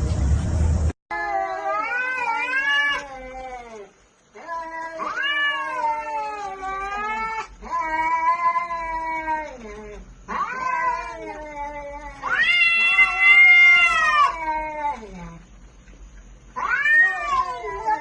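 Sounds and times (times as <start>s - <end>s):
cat yowling: 1.1s - 15.4s, 16.6s - 18.0s.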